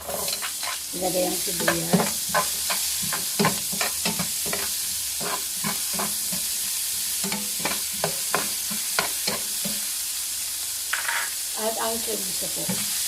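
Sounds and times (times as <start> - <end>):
onion and garlic sizzling: 0.0 - 13.0
utensil stirring pan: 0.0 - 13.0.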